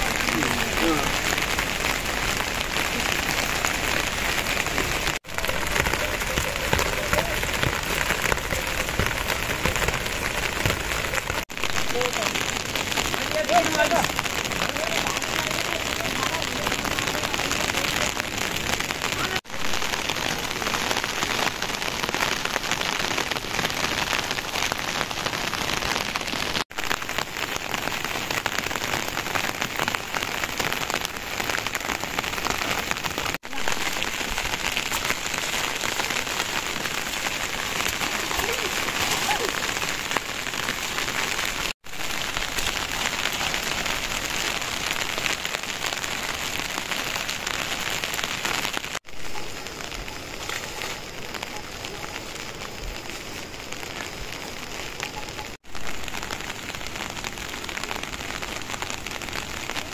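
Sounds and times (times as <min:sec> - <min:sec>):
heavy rain patter: 0:00.0 - 0:59.9.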